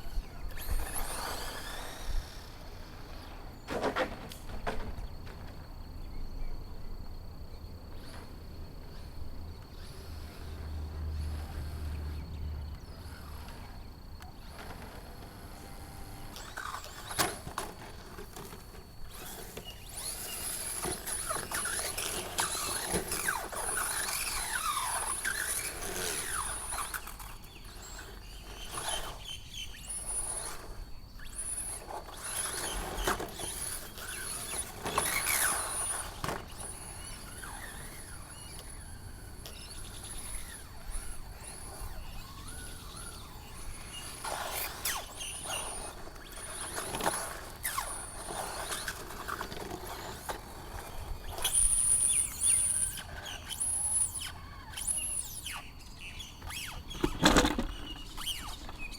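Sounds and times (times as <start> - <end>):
electric motor whining: 0.0 - 4.7, 8.0 - 58.9.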